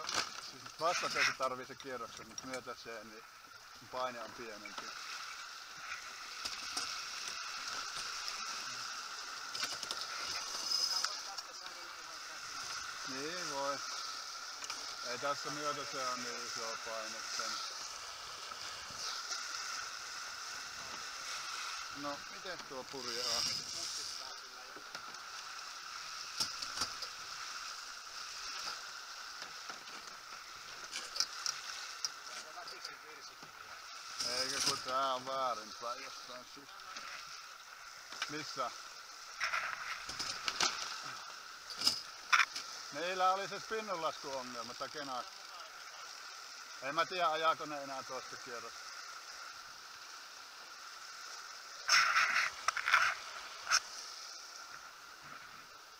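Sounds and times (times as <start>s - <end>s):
water rushing along hulls: 0.0s - 55.9s.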